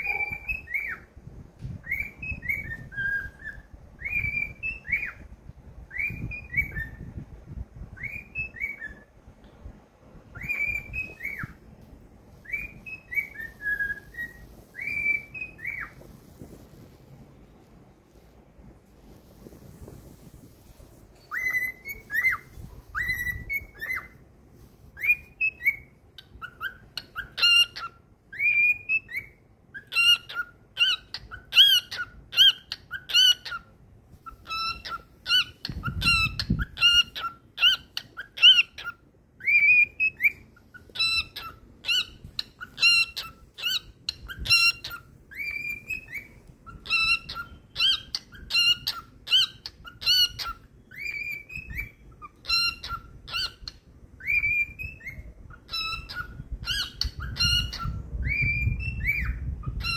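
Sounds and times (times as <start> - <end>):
cockatiel whistling song: 0.0 - 9.2, 10.2 - 11.7, 12.3 - 16.7, 19.3 - 59.9.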